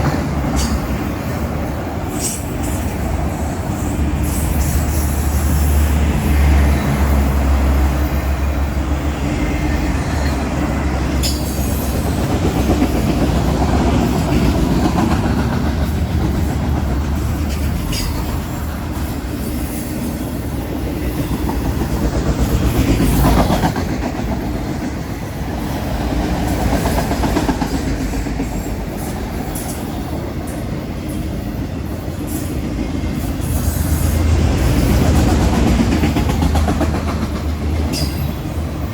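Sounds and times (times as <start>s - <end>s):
train cars rumbling on rails: 0.0s - 38.9s.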